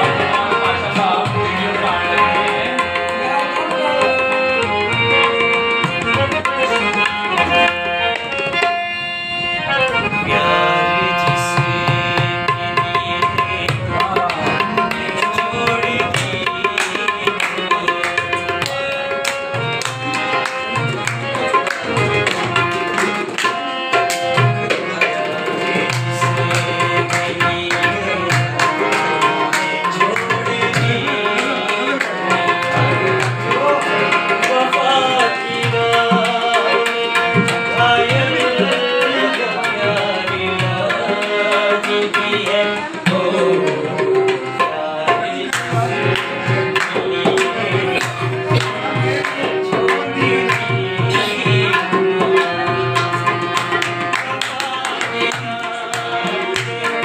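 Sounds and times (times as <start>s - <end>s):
man singing: 0.0s - 8.8s, 10.0s - 57.0s
harmonium melody: 0.0s - 57.0s
tabla rhythm: 0.0s - 57.0s.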